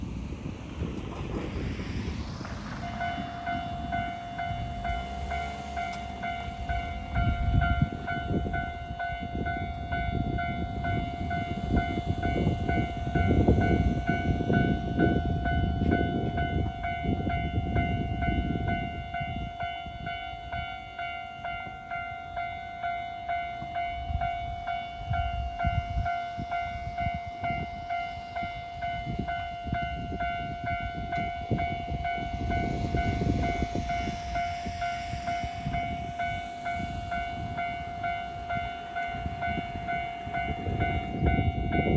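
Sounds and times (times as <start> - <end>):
train rumbling past: 0.0 - 41.9
level crossing warning bell: 2.9 - 41.9.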